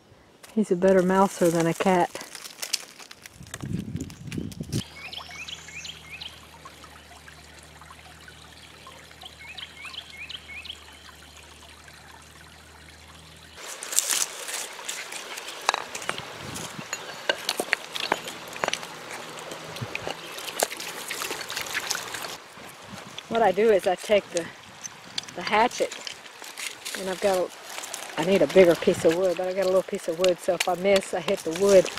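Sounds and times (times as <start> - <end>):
water trickling onto rocks: 0.4 - 31.9
low steady hum: 3.7 - 31.9.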